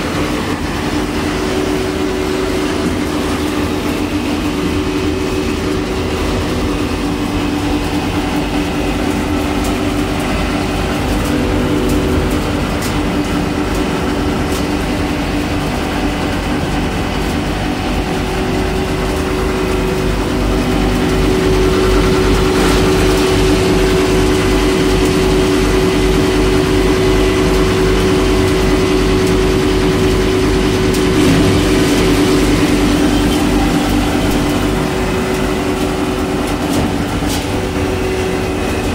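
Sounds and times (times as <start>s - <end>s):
machine hum with low throbbing: 0.0s - 38.9s.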